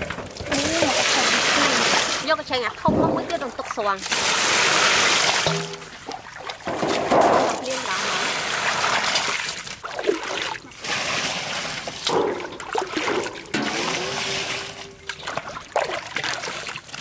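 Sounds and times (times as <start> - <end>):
water splashing in metal basin: 0.0 - 17.0.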